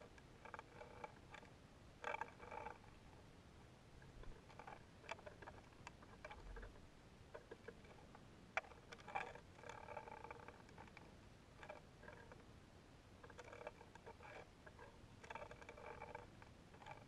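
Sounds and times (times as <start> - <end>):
faint clicks and ticks: 0.0 - 3.3, 3.9 - 17.0
faint hum: 0.0 - 17.0.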